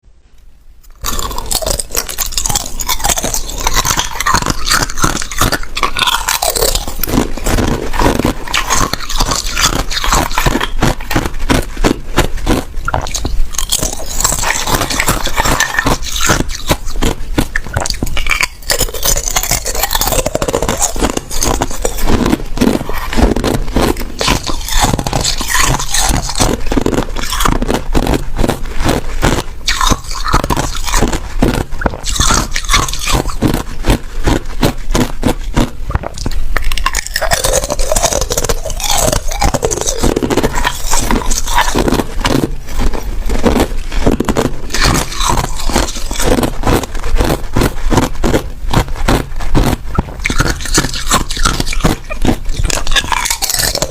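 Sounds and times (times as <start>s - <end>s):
person crunching ice: 0.8s - 53.9s.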